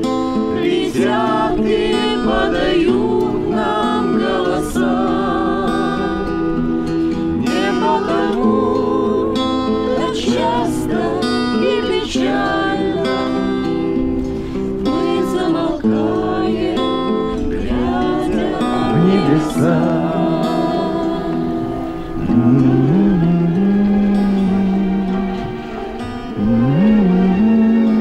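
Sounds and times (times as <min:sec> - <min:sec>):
acoustic guitar strumming: 0:00.0 - 0:28.0
person singing: 0:00.6 - 0:06.6, 0:07.4 - 0:14.0, 0:14.8 - 0:28.0.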